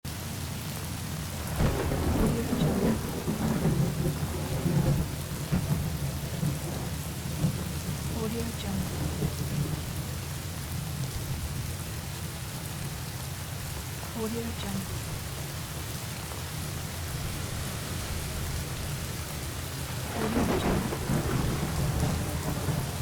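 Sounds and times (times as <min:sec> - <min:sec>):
steady rain falling: 0:00.0 - 0:23.0
rolling thunder: 0:01.2 - 0:14.2, 0:14.8 - 0:23.0.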